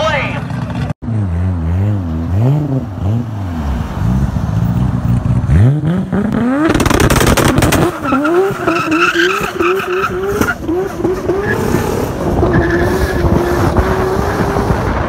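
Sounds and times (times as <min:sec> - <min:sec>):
car engine revving: 0:00.5 - 0:15.0.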